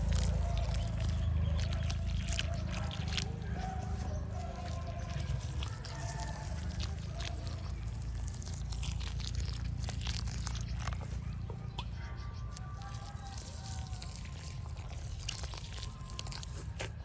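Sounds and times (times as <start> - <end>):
small crackles and spatters: 0.0 - 17.0.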